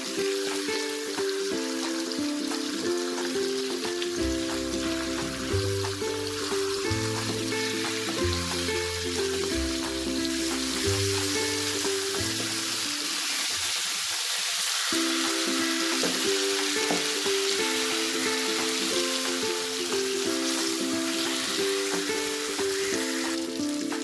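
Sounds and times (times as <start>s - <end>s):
background music: 0.0s - 13.5s, 14.7s - 24.0s
chicken sizzling in a pan: 0.0s - 24.0s.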